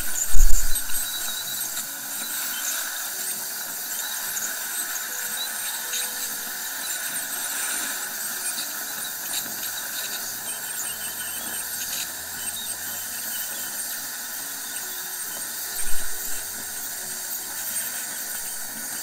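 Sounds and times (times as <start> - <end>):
dental suction hiss: 0.0 - 19.0
ultrasonic dental scaler whining: 0.0 - 19.0.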